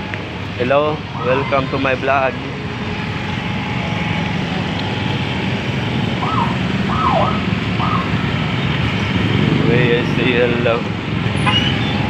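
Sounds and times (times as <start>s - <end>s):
heavy road traffic: 0.0s - 12.0s.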